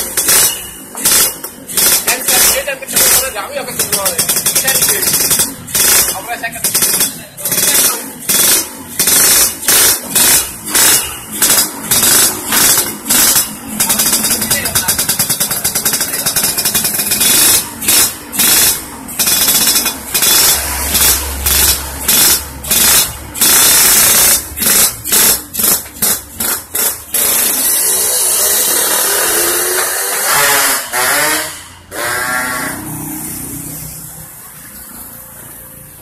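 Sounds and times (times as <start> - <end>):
motorcycle accelerating away: 0.0 - 36.0
two-stroke motorcycle revving: 0.0 - 36.0.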